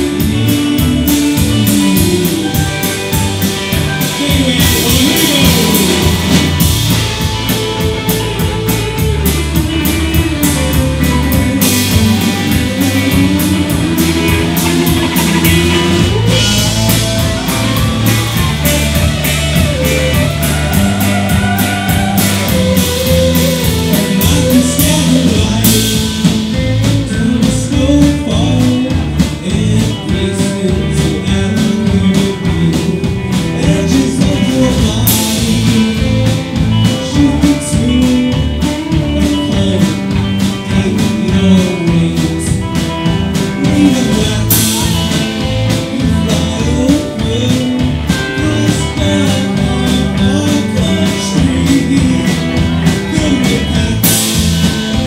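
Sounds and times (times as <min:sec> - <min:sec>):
drum kit: 0:00.0 - 0:55.0
electric bass: 0:00.0 - 0:55.0
electric guitars: 0:00.0 - 0:55.0.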